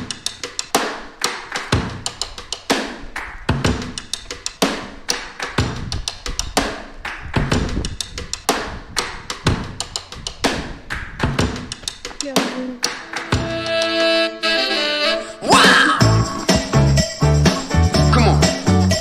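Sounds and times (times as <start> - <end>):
percussion-led background music: 0.0 - 14.4, 15.5 - 19.0.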